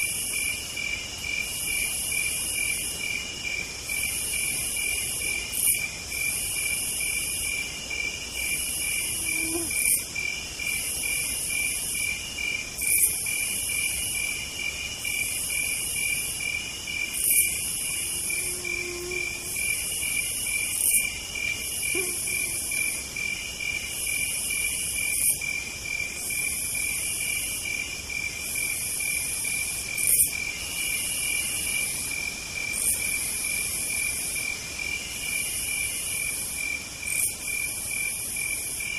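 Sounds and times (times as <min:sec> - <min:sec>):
crickets trilling: 0:00.0 - 0:38.9
higher hissy insect buzz: 0:00.0 - 0:38.9.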